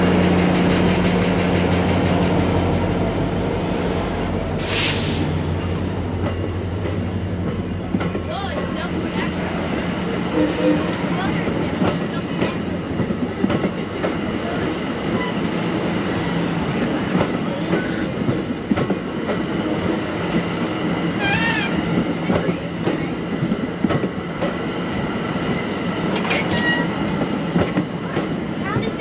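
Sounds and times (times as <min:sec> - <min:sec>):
train rumbling along track: 0:00.0 - 0:29.0.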